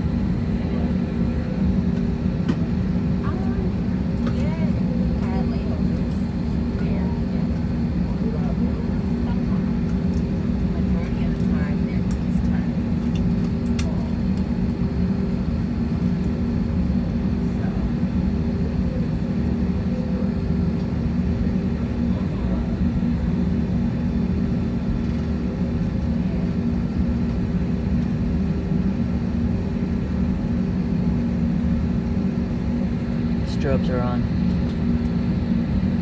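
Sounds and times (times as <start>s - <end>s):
airplane cabin engine drone: 0.0s - 36.0s.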